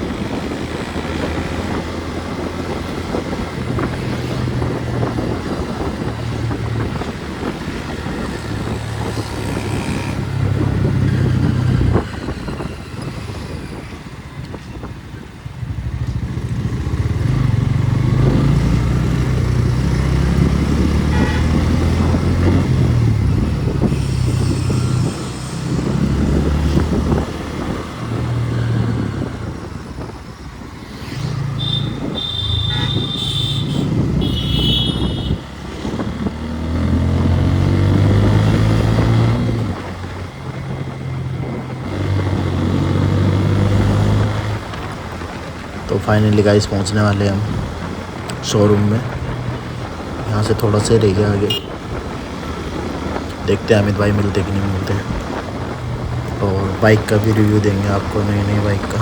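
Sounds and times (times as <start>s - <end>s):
motorcycle engine revving: 0.0s - 14.3s, 15.4s - 59.0s.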